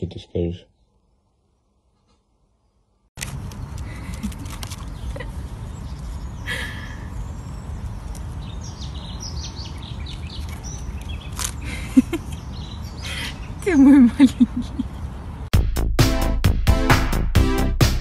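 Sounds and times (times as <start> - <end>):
birds chirping: 0.0 - 15.5.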